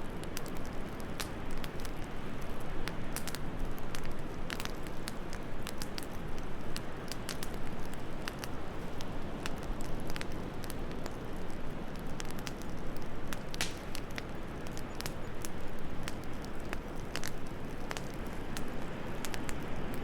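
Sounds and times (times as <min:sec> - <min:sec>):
low rumble of wind: 0:00.0 - 0:20.0
wood fire crackling and popping: 0:00.0 - 0:20.0.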